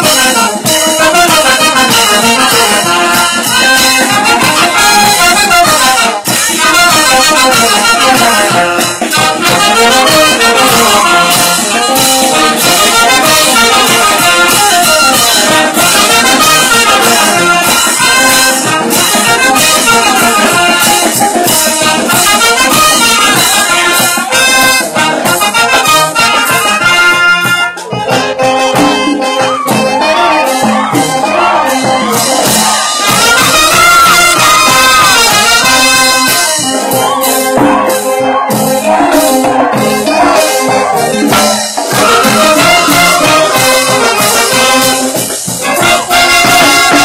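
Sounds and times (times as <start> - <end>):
live band with brass and percussion: 0.0 - 47.0.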